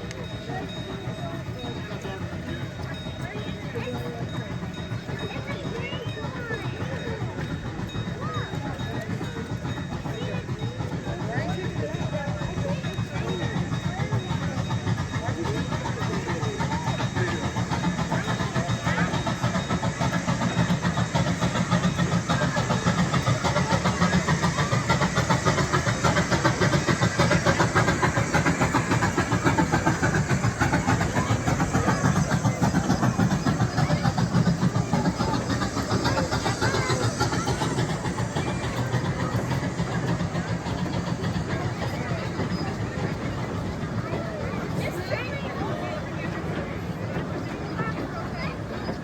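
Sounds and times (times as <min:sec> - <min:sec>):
people's voices: 0:00.0 - 0:49.0
train engine chugging: 0:00.0 - 0:49.0.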